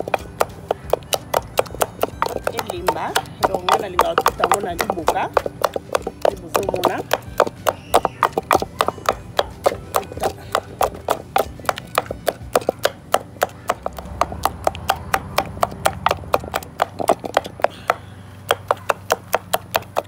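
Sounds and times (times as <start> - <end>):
wooden pestle pounding in mortar: 0.0 - 20.0.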